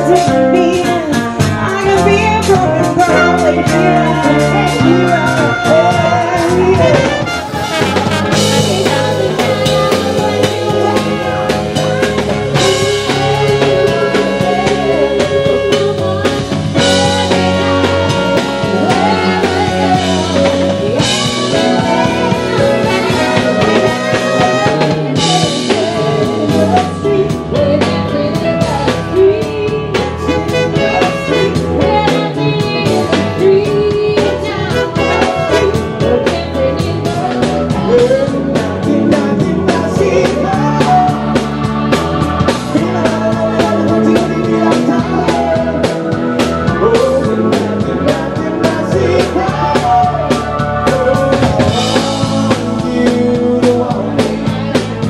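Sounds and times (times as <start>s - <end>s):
live band playing: 0.0s - 55.0s
women singing: 0.0s - 55.0s.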